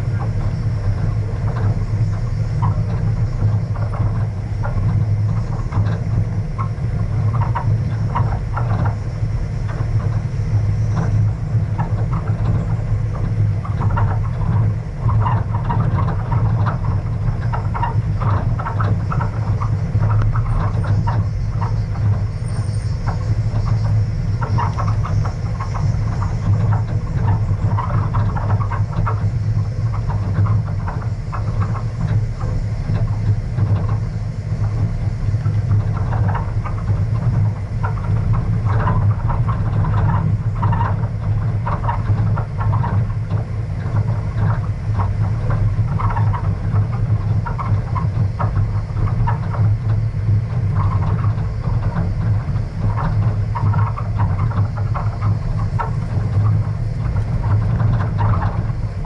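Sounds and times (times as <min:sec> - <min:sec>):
low engine drone: 0:00.0 - 0:59.0.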